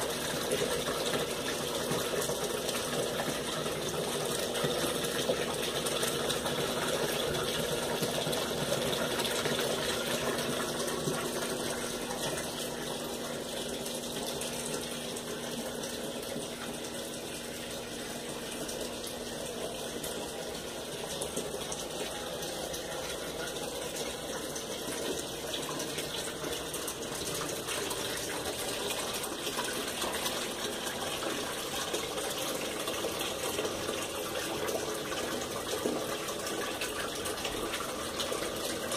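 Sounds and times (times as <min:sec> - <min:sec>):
washing machine water rushing: 0:00.0 - 0:38.9.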